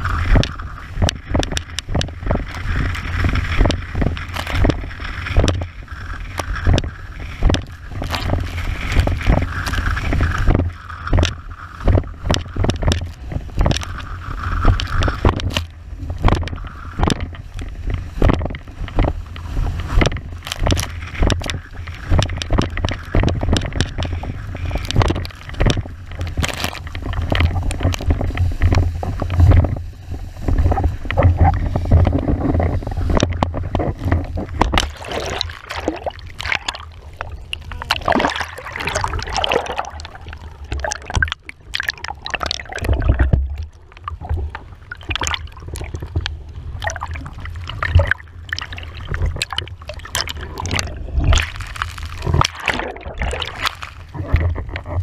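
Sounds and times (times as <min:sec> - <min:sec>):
board slapping on water: 0:00.0 - 0:55.0
water rushing and spraying: 0:00.0 - 0:55.0
wind buffeting microphone: 0:00.0 - 0:55.0.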